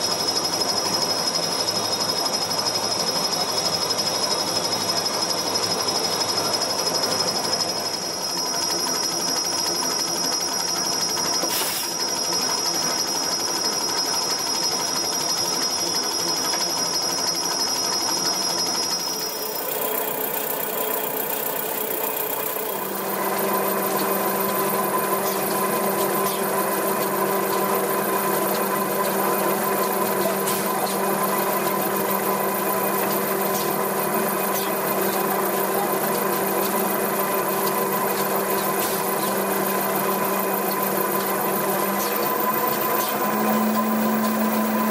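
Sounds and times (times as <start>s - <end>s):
machine whirring and humming: 0.0s - 44.9s.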